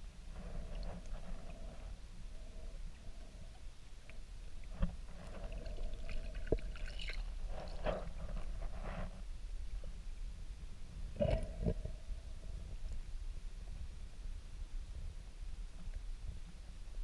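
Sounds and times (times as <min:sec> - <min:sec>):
low underwater rumble: 0:00.0 - 0:17.0.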